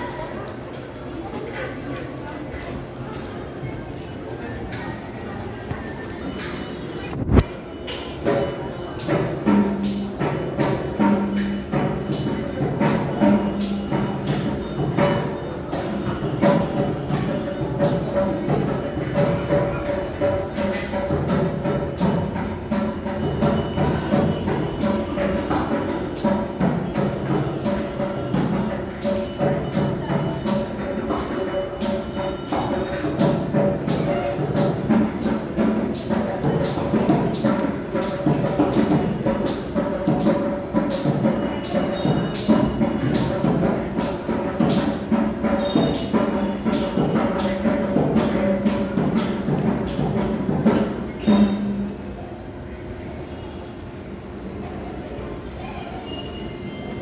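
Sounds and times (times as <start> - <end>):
bells ringing: 0.0 - 54.5
percussion: 0.0 - 57.0.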